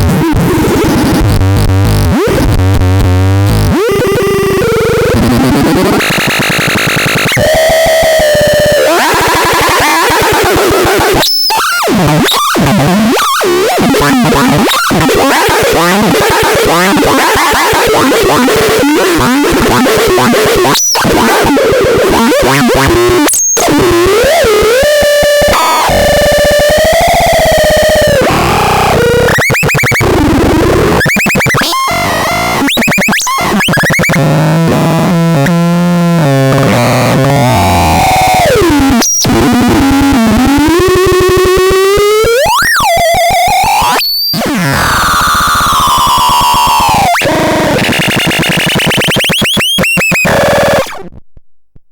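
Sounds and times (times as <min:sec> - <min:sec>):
chaotic synthesizer noise: 0:00.0 - 0:51.2.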